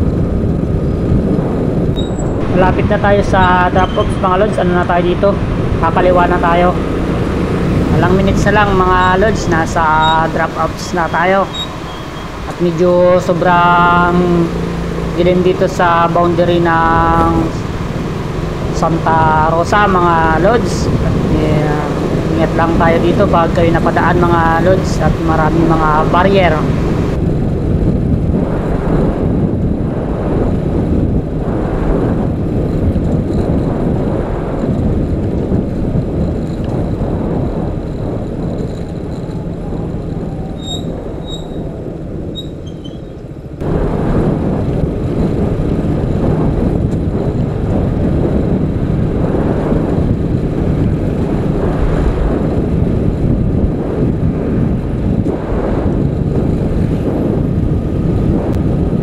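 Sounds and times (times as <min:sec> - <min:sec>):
motorcycle engine and wind rumble: 0:00.0 - 0:59.0.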